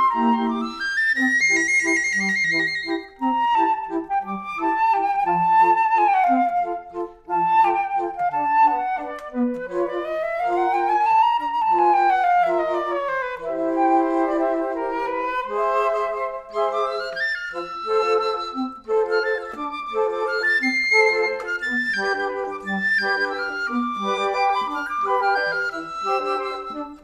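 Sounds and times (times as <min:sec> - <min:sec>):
background music melody: 0:00.0 - 0:27.0.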